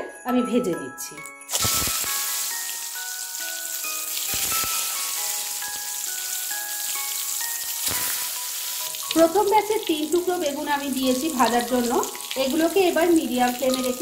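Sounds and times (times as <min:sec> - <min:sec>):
chiming melody background music: 0:00.0 - 0:14.0
eggplant slices sizzling in oil: 0:01.5 - 0:14.0.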